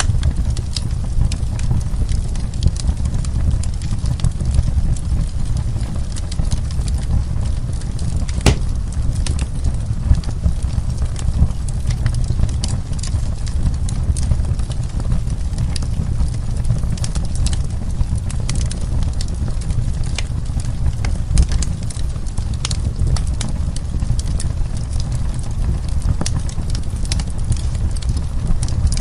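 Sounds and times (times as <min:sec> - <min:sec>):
wood fire crackling: 0:00.1 - 0:29.0.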